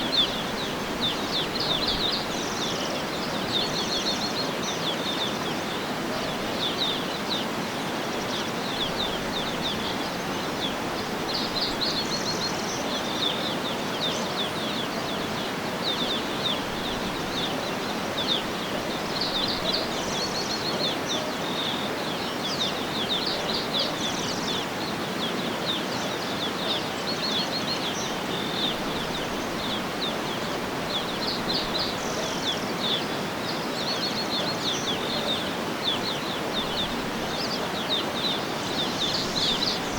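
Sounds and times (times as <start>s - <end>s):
birds chirping and singing: 0.0s - 39.9s
steady background hiss: 0.0s - 39.9s.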